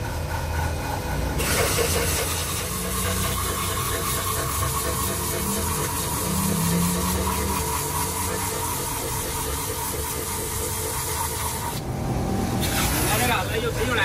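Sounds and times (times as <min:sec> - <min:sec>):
rotary buffer grinding rubber: 0:00.0 - 0:14.0.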